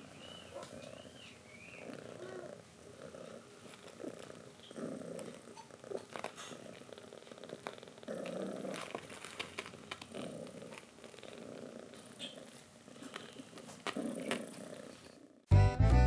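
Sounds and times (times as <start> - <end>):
cat purring: 0.0 - 15.5.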